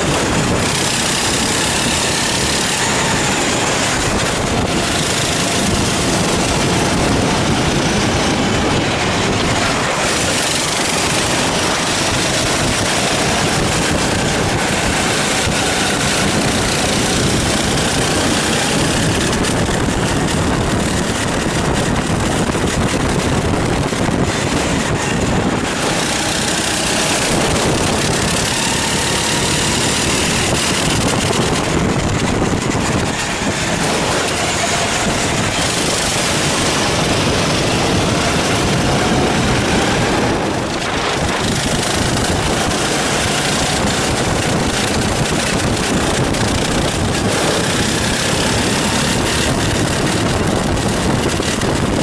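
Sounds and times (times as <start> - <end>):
kart engines revving: 0.0 - 52.0.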